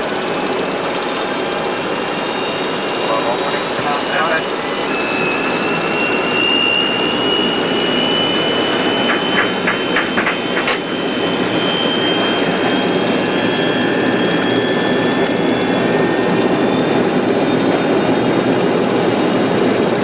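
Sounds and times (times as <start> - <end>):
jet engine roar and whine: 0.0 - 20.0.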